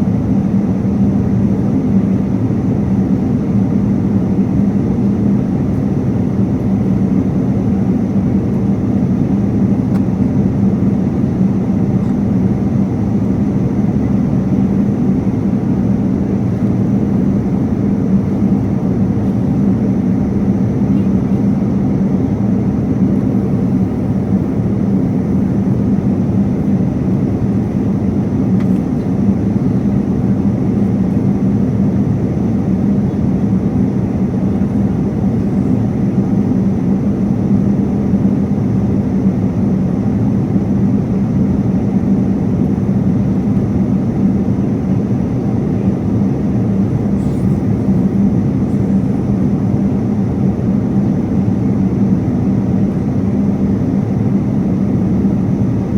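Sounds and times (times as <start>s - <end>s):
airliner cabin air and engine drone: 0.0s - 55.9s
constant low hum: 0.0s - 55.9s.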